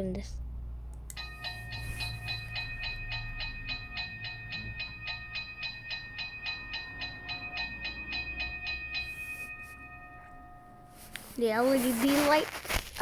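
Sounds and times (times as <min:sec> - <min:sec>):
low hum: 0:00.4 - 0:11.4
toy crossing electronic bell: 0:01.2 - 0:11.9.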